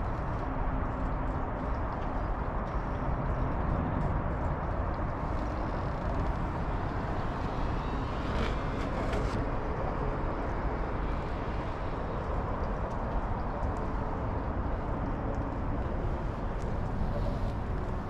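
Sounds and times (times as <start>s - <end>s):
outdoor background rumble: 0.0s - 18.0s.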